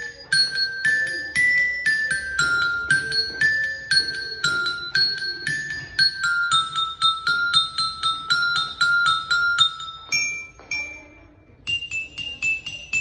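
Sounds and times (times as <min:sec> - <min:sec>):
metallophone melody: 0:00.0 - 0:13.0.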